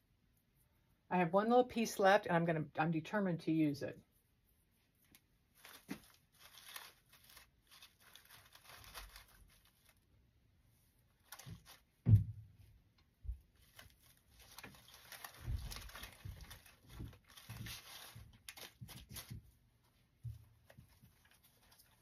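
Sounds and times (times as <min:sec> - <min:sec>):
artificial flower stems rustling: 0:04.4 - 0:22.0.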